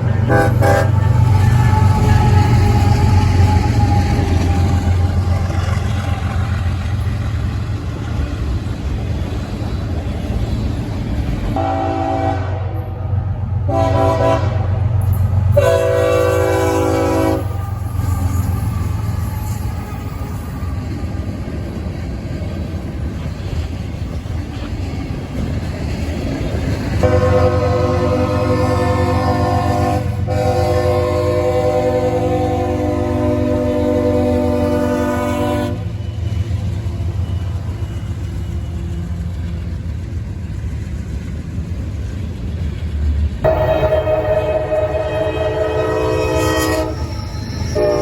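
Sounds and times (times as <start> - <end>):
freight train rumbling past: 0.0 - 48.0.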